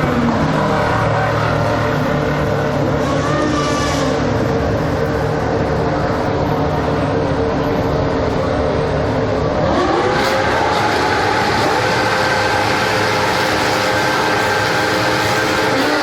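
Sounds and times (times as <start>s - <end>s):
race car engine revving: 0.0s - 7.2s, 8.9s - 16.0s.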